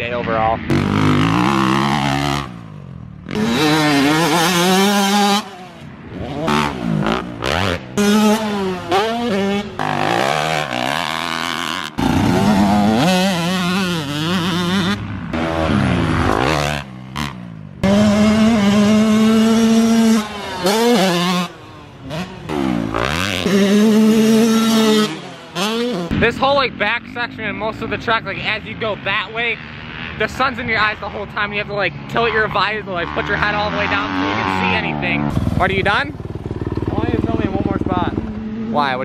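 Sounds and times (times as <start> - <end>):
dirt bike engine revving: 0.5 - 39.0.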